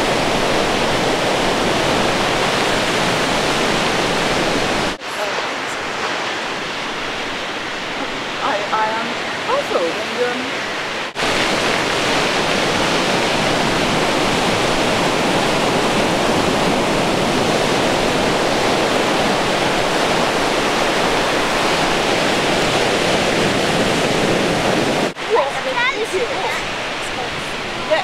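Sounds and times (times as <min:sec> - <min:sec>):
sea surf rushing: 0:00.0 - 0:28.0.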